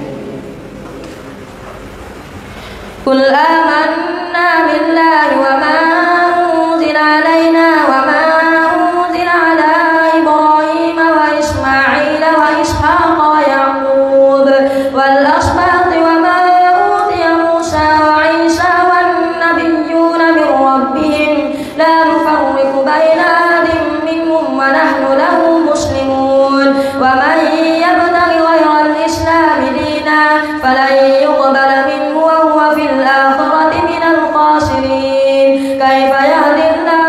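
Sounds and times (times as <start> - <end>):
boy chanting recitation: 3.1 - 37.0.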